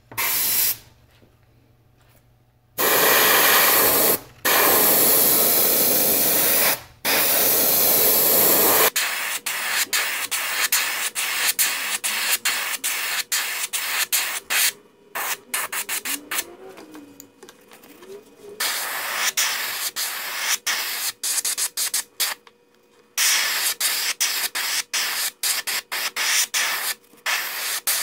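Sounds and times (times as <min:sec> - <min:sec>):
airbrush spraying paint: 0:00.1 - 0:00.8, 0:02.8 - 0:16.4, 0:18.6 - 0:22.4, 0:23.2 - 0:28.0.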